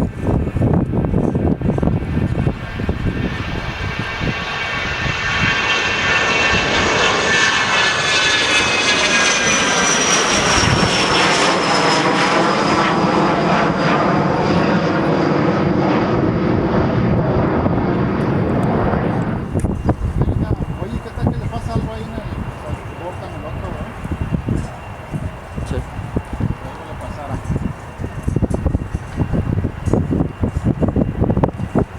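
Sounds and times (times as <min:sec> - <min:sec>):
high engine whine falling in pitch: 0:00.0 - 0:31.9
jet airliner flying past: 0:00.0 - 0:31.9.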